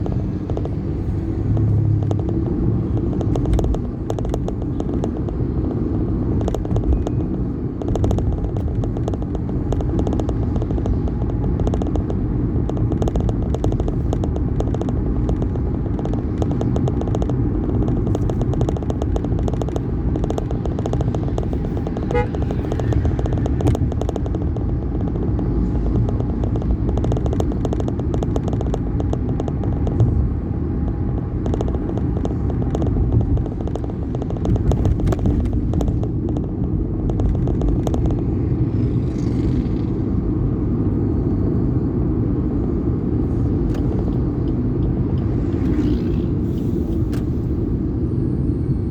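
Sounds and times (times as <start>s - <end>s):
vehicle rumbling in motion: 0.0s - 48.9s
wind noise on microphone: 0.0s - 48.9s.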